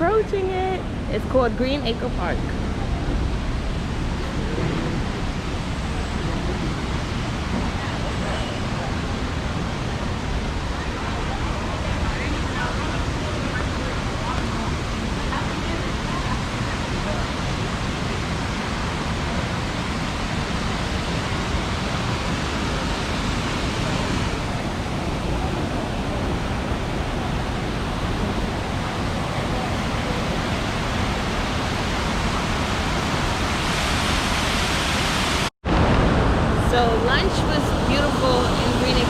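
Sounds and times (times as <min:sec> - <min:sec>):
waterfall rushing into basin: 0:00.0 - 0:39.0.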